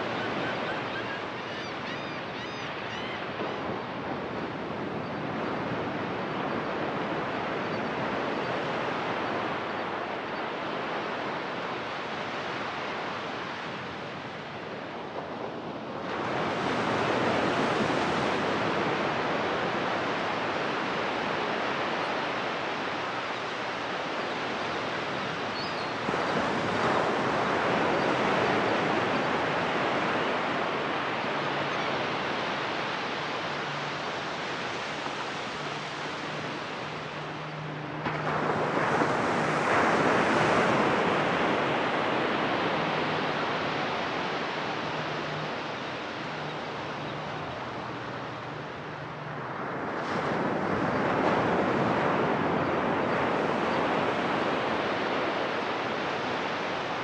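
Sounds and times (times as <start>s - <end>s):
surf washing up a beach: 0.0s - 57.0s.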